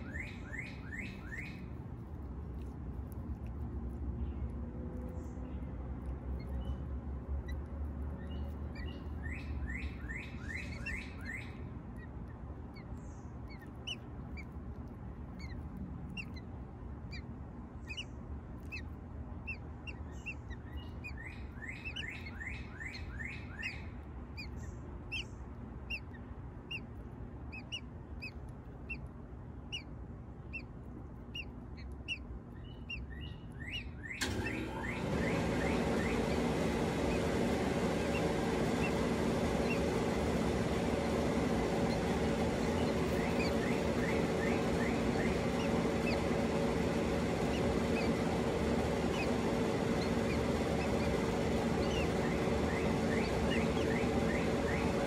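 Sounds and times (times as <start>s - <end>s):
birds chirping: 0.0s - 55.0s
steady low rumble: 0.0s - 55.0s.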